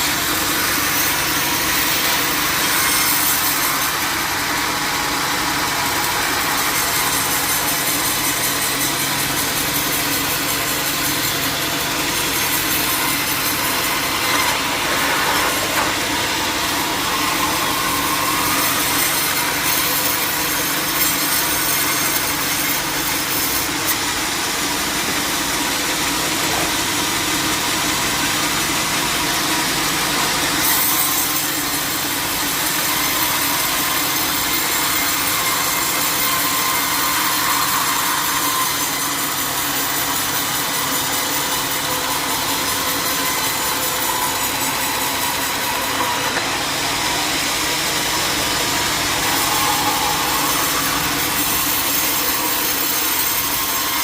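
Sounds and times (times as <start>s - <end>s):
saw cutting through log: 0.0s - 54.0s.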